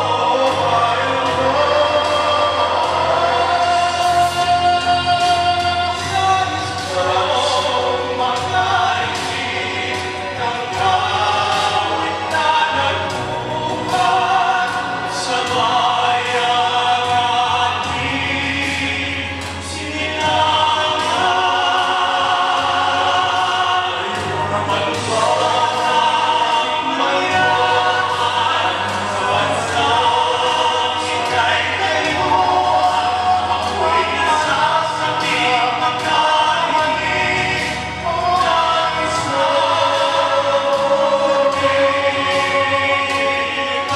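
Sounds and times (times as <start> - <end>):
men singing in harmony: 0.0 - 43.9.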